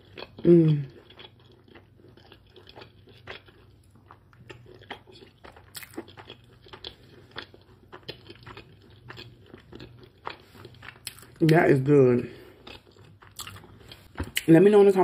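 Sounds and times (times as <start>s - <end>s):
chewing crispy food: 0.0s - 15.0s.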